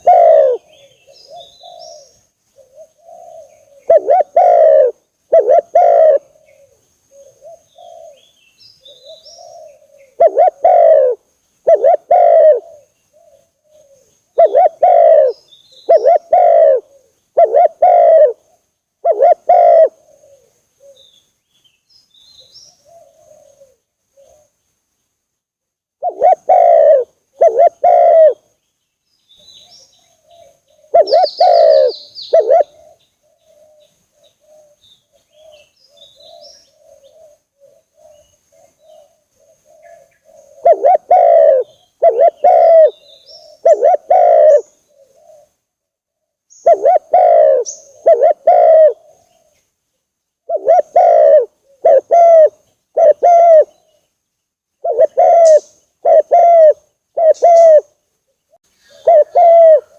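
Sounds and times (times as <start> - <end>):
dove cooing loudly: 0.0 - 21.1, 22.7 - 24.5, 26.0 - 28.5, 29.6 - 45.6, 46.5 - 49.6, 50.4 - 54.0, 54.8 - 59.9
faint dove cooing: 0.0 - 21.2, 22.2 - 24.6, 26.0 - 28.5, 29.4 - 49.7, 50.4 - 54.1, 54.8 - 59.9
small birds chirping: 0.0 - 25.4, 26.0 - 59.9.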